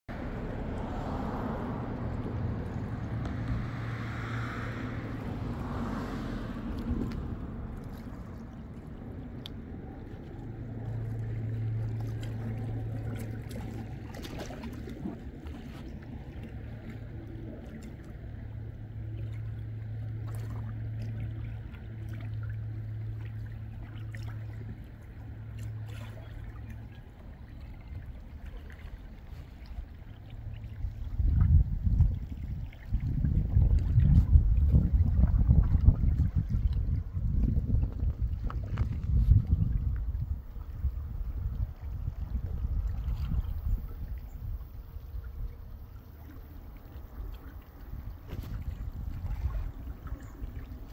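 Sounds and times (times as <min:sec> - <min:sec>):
low engine hum: 0:00.0 - 0:50.9
water lapping: 0:00.1 - 0:50.9.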